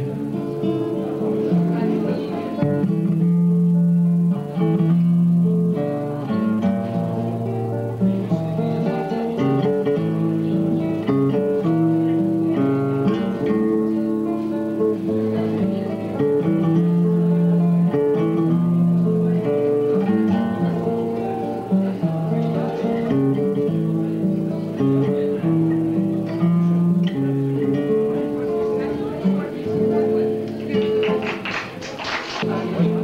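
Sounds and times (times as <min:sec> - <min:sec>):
acoustic guitar: 0:00.0 - 0:33.0.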